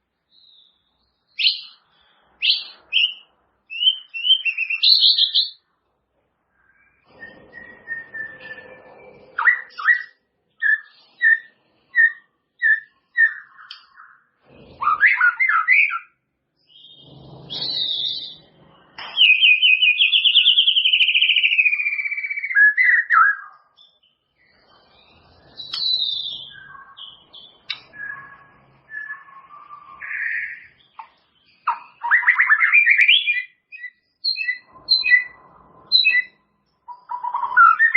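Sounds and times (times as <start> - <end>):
bird singing whistled notes and trills: 0.3 - 5.7, 6.6 - 37.9.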